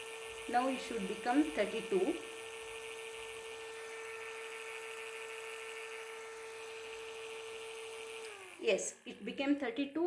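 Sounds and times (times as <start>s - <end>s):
cooling fan motor whine: 0.0s - 9.6s.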